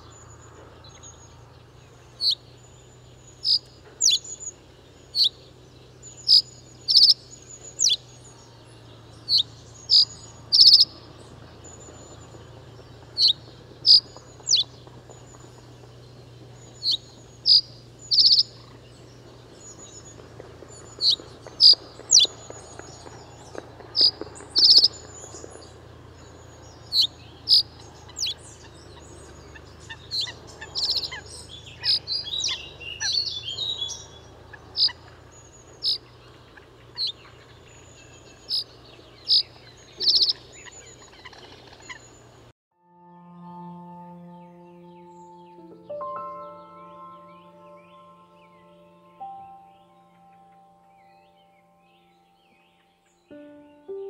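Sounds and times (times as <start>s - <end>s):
reed bunting singing: 0.0s - 42.5s, 43.1s - 54.0s.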